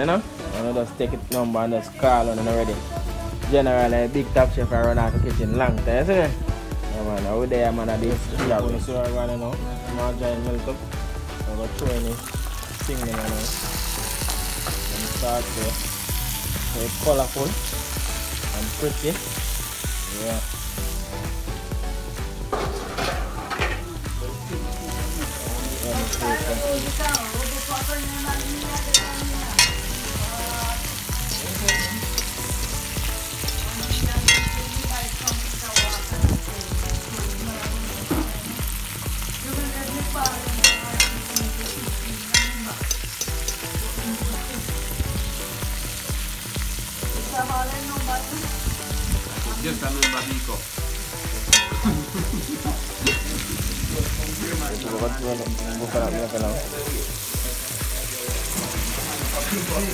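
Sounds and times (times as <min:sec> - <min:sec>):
vegetables sizzling in a pot: 0:00.0 - 0:05.0, 0:05.9 - 0:59.9.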